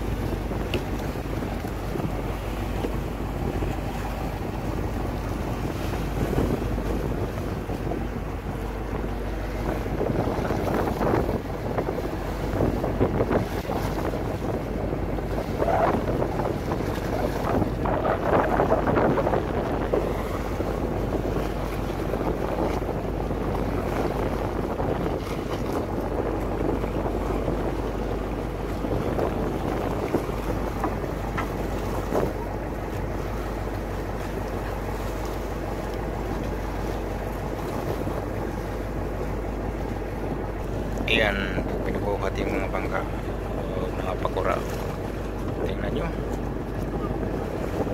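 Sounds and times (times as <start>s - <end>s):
water washing against hulls: 0.0s - 47.9s
wind buffeting microphone: 0.0s - 47.9s.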